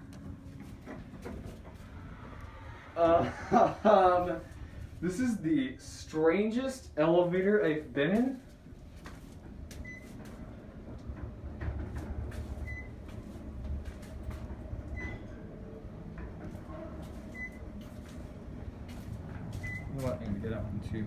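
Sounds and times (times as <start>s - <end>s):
elevator car rumbling: 0.0s - 5.0s, 5.8s - 21.0s.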